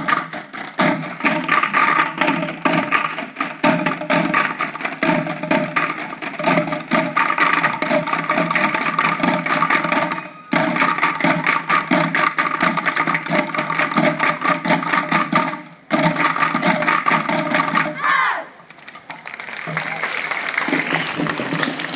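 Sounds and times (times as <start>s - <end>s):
children drumming on plastic buckets: 0.0s - 21.9s.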